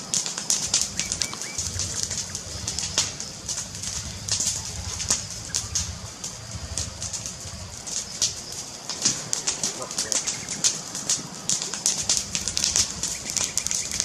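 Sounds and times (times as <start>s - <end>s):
low rumble: 0.0s - 14.0s
wood fire crackling and popping: 0.0s - 14.0s.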